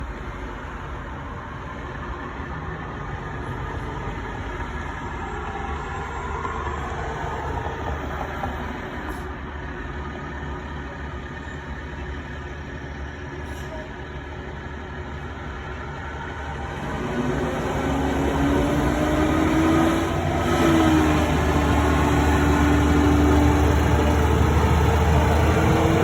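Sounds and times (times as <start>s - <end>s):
dump truck engine rumble: 0.0s - 26.0s.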